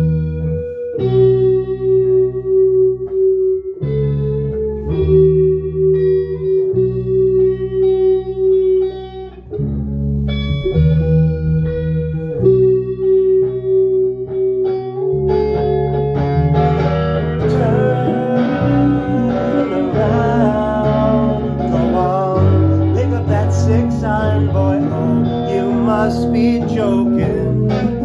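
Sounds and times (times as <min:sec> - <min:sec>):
guitar long held notes: 0:00.0 - 0:28.0
steady bass: 0:00.0 - 0:28.0.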